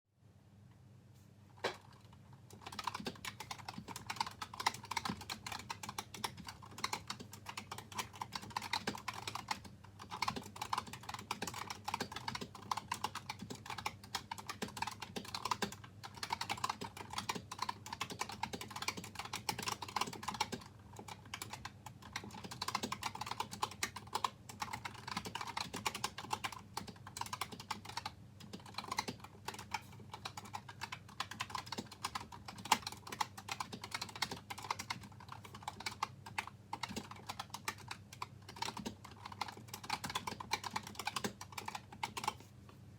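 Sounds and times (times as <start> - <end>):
keyboard typing: 1.6 - 42.5.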